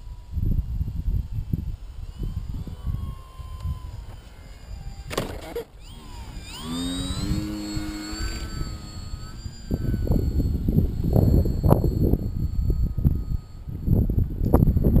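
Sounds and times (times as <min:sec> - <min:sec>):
propeller motor whine: 0:00.0 - 0:15.0
wind buffeting microphone: 0:00.0 - 0:15.0.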